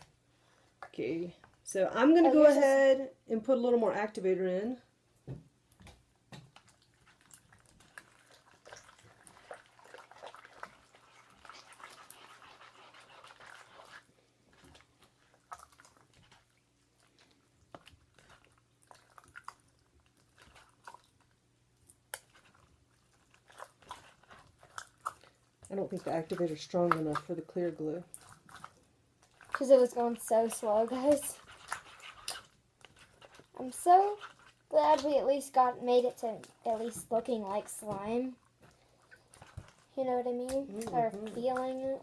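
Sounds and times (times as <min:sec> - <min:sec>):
sticky slime squelching: 0:05.3 - 0:42.0.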